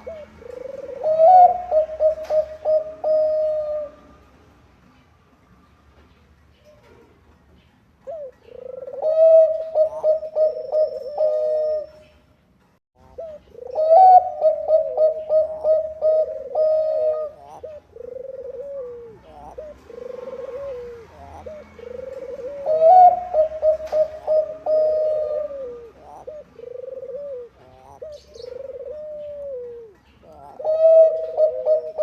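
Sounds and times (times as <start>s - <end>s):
dove cooing: 0.0s - 4.2s, 8.0s - 12.2s, 13.0s - 32.0s.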